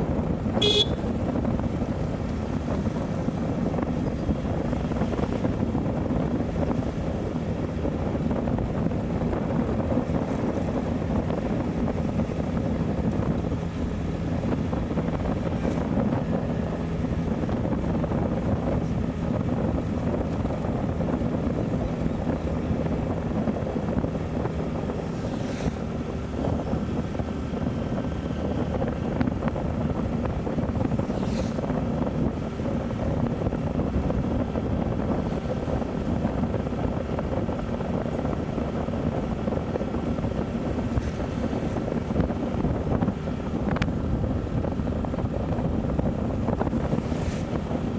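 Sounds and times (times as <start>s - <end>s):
motorcycle engine cruising: 0.0s - 47.9s
wind rushing over microphone: 0.0s - 47.9s.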